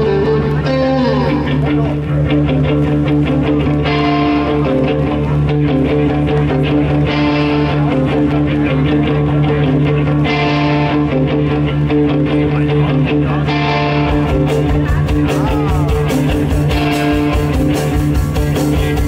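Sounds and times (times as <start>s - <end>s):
live psychedelic rock band: 0.0s - 19.0s.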